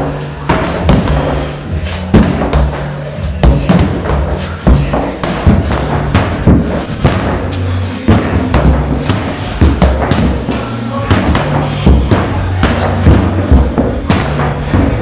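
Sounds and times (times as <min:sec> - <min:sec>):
music with heavy bass: 0:00.0 - 0:15.0
sledgehammer thuds on tires: 0:00.0 - 0:15.0.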